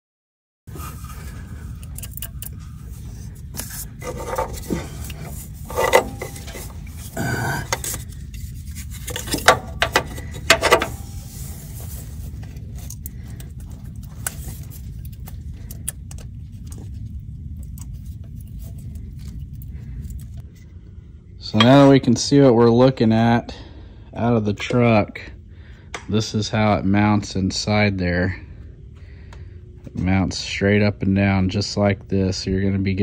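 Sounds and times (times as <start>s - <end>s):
low hum: 0.7s - 33.0s.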